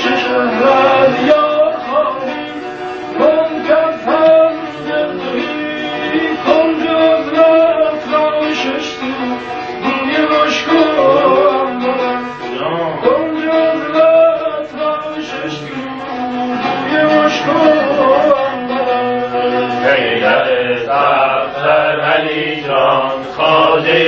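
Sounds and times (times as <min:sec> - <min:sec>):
men chanting: 0:00.0 - 0:24.0.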